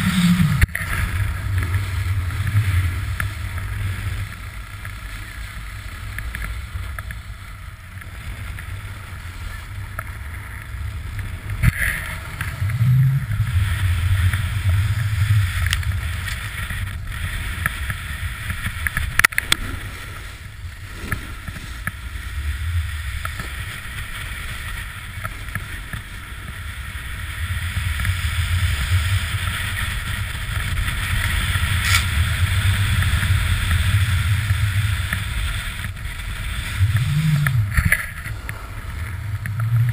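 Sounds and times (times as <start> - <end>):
snowboard scraping over snow: 0.0 - 39.9.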